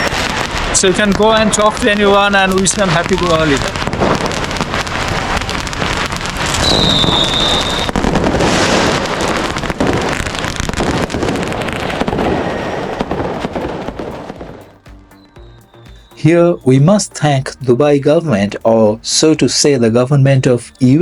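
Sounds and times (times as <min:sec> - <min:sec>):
high firework whistle: 0:00.0 - 0:17.4
firecrackers crackling: 0:00.0 - 0:20.1.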